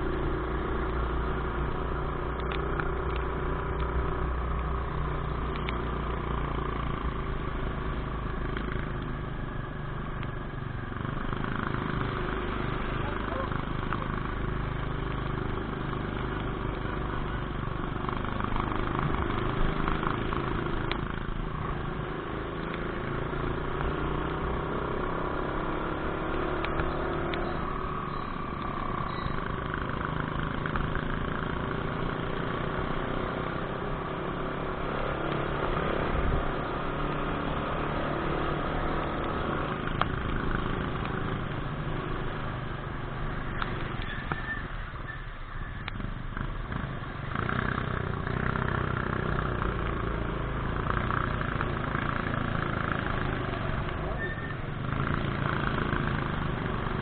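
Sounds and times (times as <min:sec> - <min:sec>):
motorcycle engine running: 0:00.0 - 0:44.8, 0:45.9 - 0:57.0.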